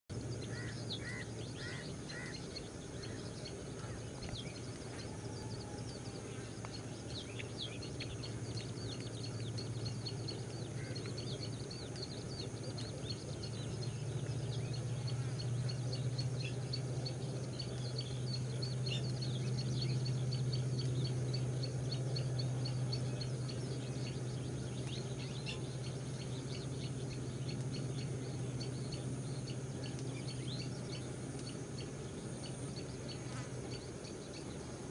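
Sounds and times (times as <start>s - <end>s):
birds chirping: 0.1s - 34.9s
steady low hum: 0.1s - 34.9s.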